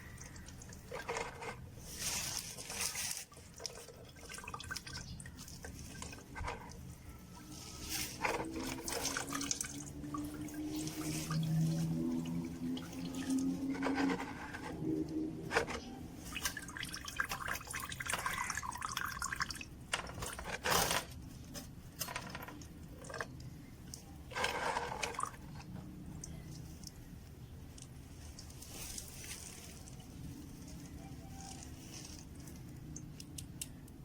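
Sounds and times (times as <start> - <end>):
coolant dripping and trickling: 0.0 - 34.0.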